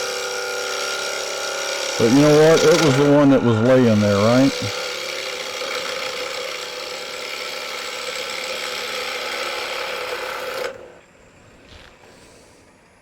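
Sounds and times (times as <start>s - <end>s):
wood lathe turning tool cutting: 0.0s - 11.0s.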